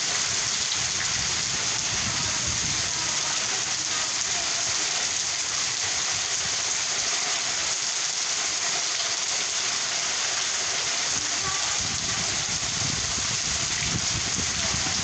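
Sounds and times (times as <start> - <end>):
rain falling steadily: 0.0 - 15.0.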